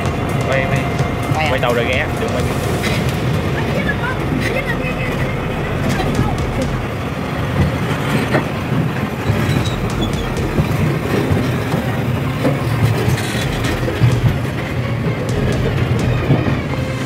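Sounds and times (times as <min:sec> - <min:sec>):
rail clicks and clacks: 0:00.0 - 0:17.0
train wheels rumbling on track: 0:00.0 - 0:17.0.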